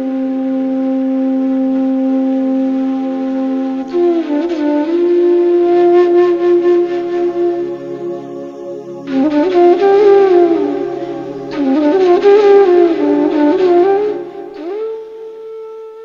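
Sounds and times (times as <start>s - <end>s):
slow flute-like instrumental music: 0.0s - 16.0s.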